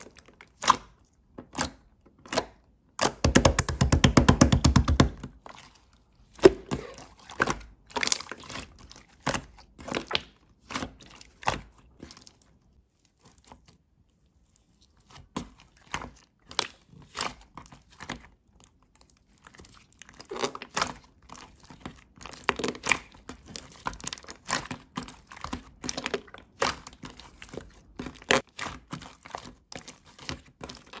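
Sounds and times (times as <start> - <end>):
slime squished by hand: 0.0 - 13.8, 19.2 - 31.0.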